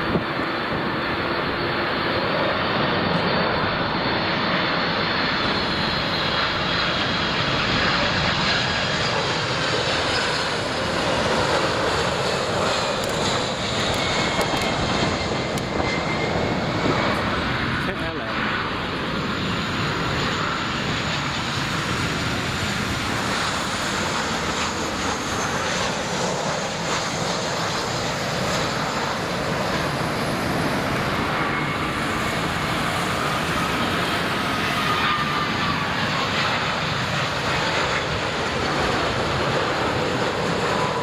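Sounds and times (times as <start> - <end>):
jet airliner engines passing: 0.0 - 41.0.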